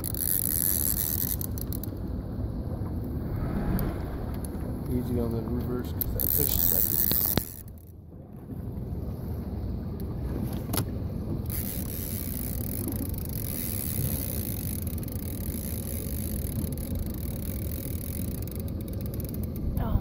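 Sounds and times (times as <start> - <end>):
boat motor rumbling: 0.0 - 20.0.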